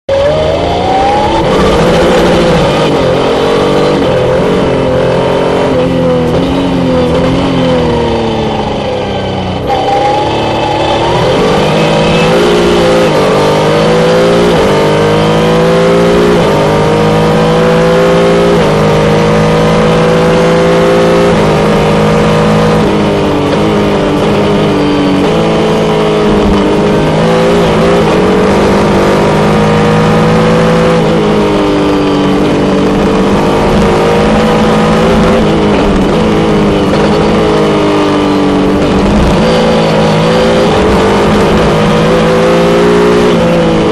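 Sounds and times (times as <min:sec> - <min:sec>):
racing car engine revving: 0:00.1 - 0:43.9.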